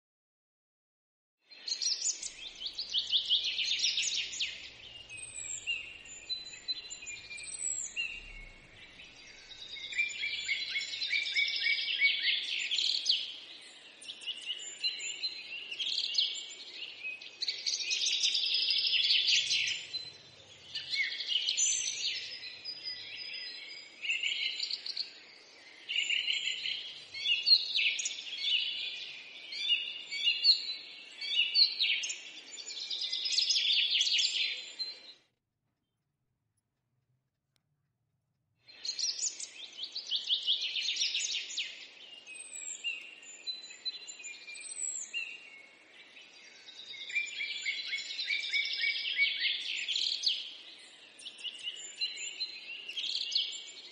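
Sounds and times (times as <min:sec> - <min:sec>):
small birds chirping and singing: 0:01.4 - 0:35.3, 0:38.7 - 0:53.9.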